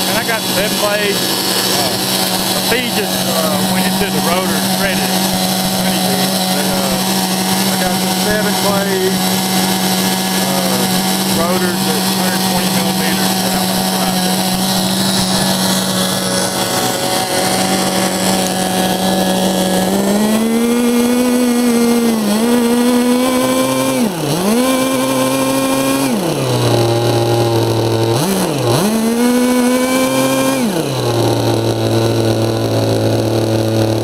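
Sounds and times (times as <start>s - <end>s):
model engine ducted fan revving: 0.0s - 34.0s.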